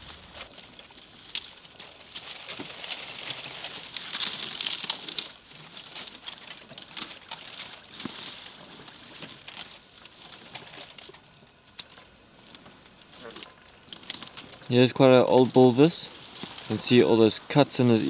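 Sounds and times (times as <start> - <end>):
twigs snapping: 0.0 - 17.8
leaves and branches rustling: 0.0 - 18.0.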